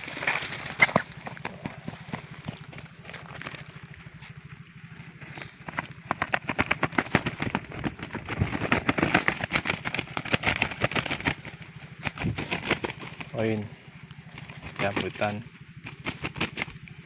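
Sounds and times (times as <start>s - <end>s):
wings flapping in dry grass: 0.0s - 17.0s.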